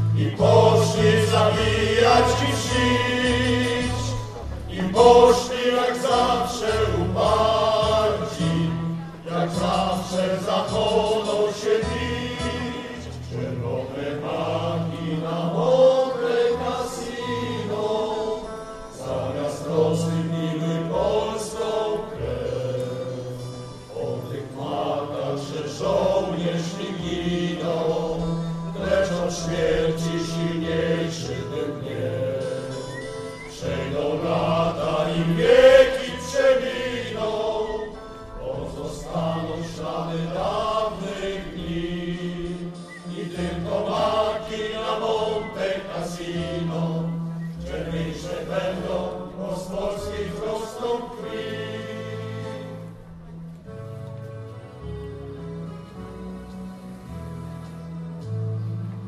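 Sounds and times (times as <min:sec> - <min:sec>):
choir singing: 0:00.0 - 0:53.2.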